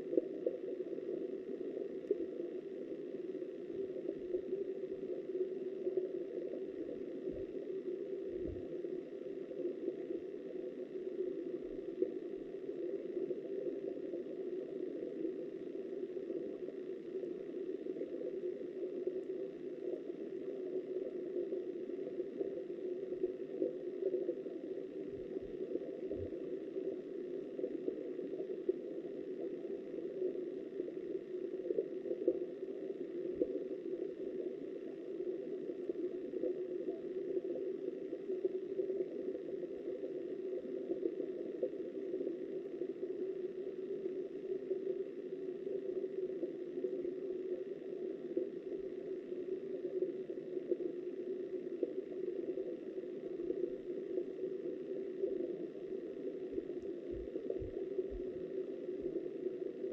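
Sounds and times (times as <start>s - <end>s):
muffled underwater river current: 0.0s - 59.9s.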